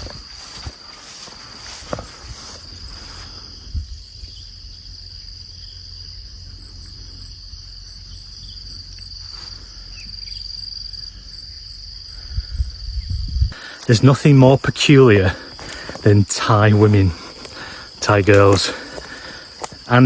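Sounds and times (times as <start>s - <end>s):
insect chirping in pips: 0.0s - 20.0s
insects droning: 0.0s - 20.0s.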